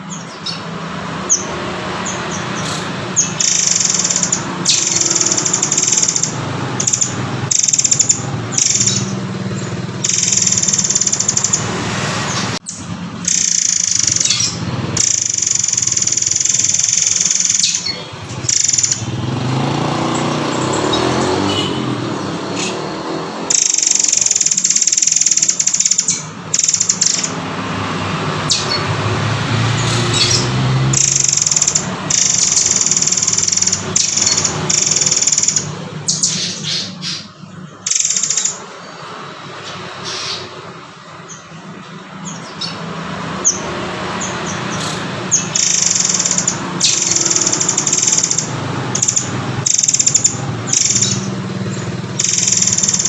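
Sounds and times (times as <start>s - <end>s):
high-pitched bird song: 0.0s - 53.0s
steady background noise: 0.0s - 53.0s.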